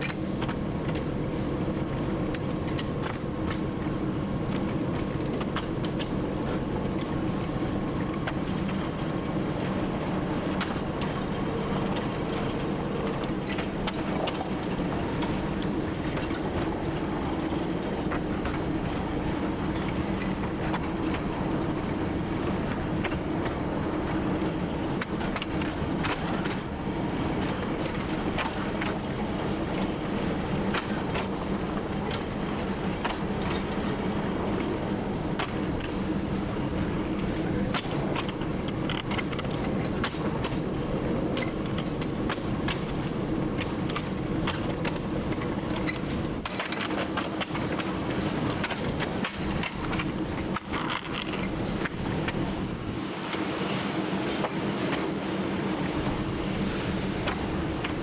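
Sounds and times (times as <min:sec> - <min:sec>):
train wheels clicking on rails: 0:00.0 - 0:58.0.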